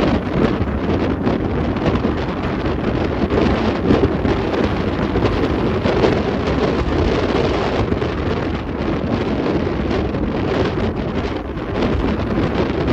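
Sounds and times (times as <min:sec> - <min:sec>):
vehicle road noise: 0:00.0 - 0:12.9
wind rushing over microphone: 0:00.0 - 0:12.9.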